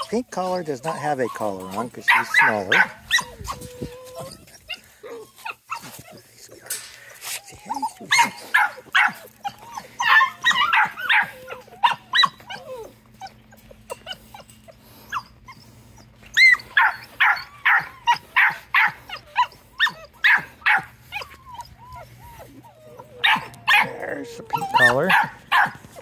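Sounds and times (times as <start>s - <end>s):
puppies yipping and barking: 0.0s - 26.0s.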